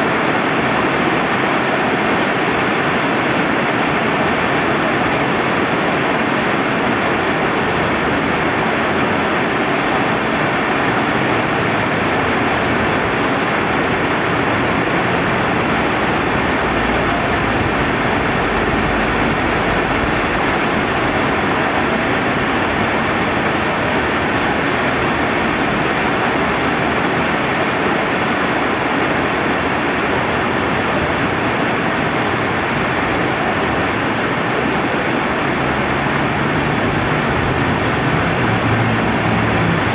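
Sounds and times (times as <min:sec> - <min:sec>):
rushing river water: 0:00.0 - 0:39.9
steady rain: 0:00.0 - 0:39.9.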